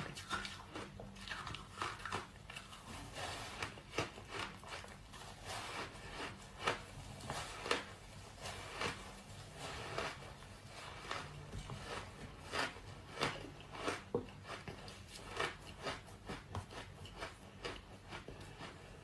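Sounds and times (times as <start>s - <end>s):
ice being chewed and crunched: 0.0s - 19.0s.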